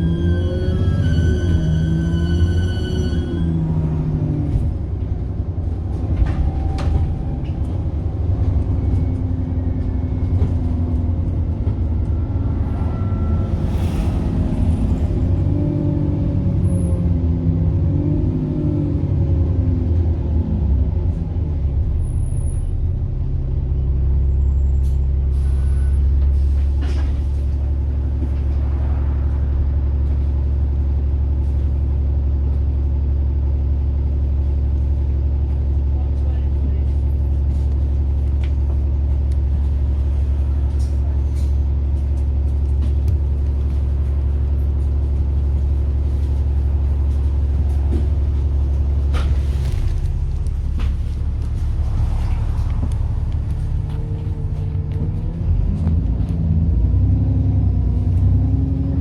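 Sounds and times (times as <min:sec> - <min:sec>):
diesel bus engine: 0:00.0 - 0:59.0.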